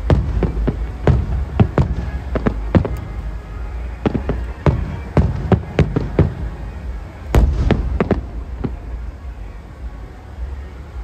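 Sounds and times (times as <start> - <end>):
firework shells bursting: 0.0 - 9.0.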